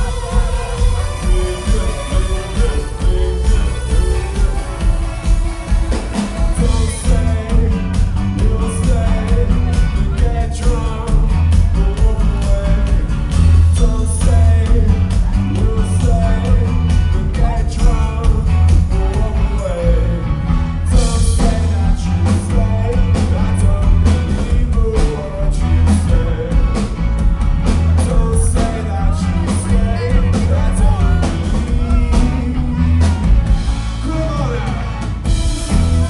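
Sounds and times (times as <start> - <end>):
person singing: 0.0 - 26.9, 27.8 - 36.0
live rock band: 0.0 - 36.0.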